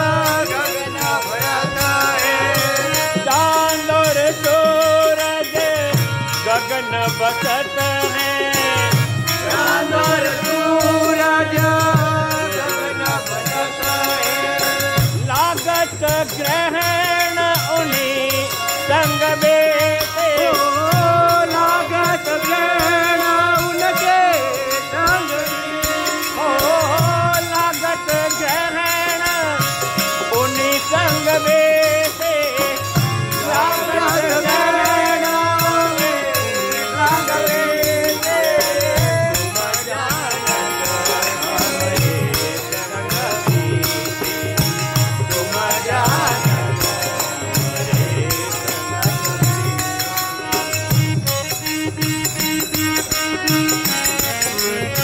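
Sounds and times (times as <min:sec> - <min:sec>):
steady percussion: 0:00.0 - 0:55.0.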